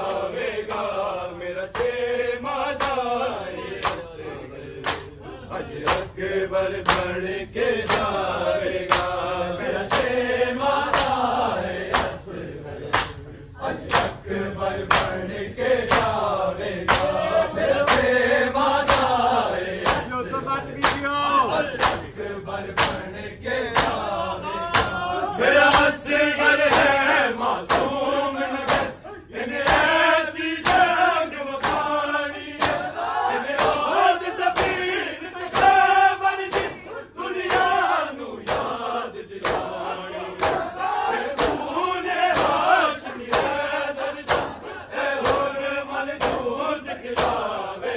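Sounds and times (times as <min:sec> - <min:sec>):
men chanting in unison: 0:00.0 - 0:47.9.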